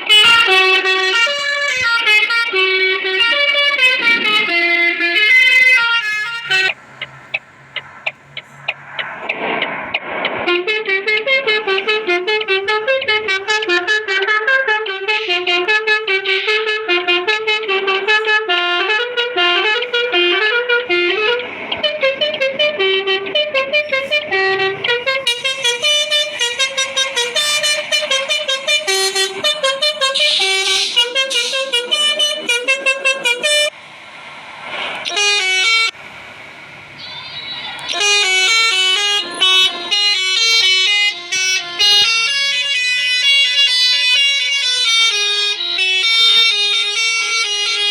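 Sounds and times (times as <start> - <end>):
multi-tone air horn tune: 0.0 - 8.0, 10.0 - 33.8, 35.0 - 36.0, 36.9 - 47.9.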